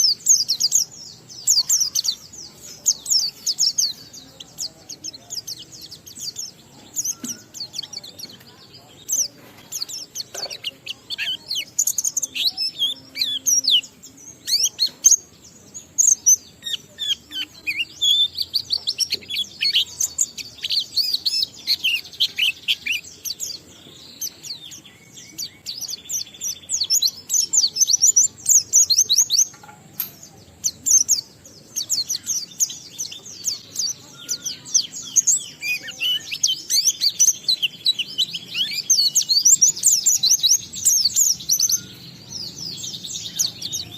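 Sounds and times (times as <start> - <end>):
bird song with chirps and trills: 0.0 - 43.9.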